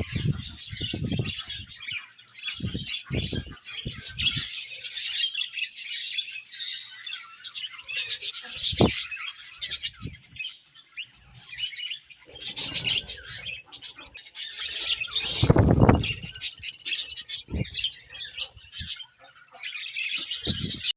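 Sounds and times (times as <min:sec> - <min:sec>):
budgerigars chirping: 0:00.0 - 0:20.9.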